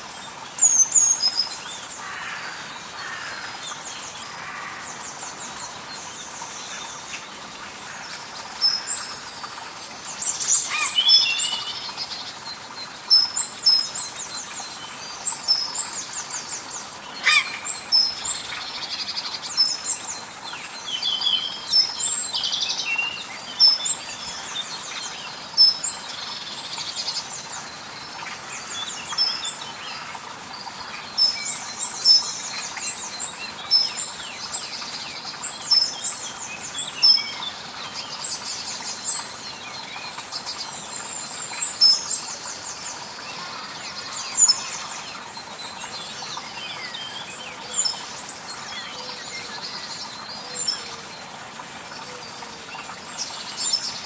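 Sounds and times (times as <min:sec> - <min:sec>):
faint outdoor hiss: 0:00.0 - 0:54.0
birds chirping and trilling: 0:00.6 - 0:54.0.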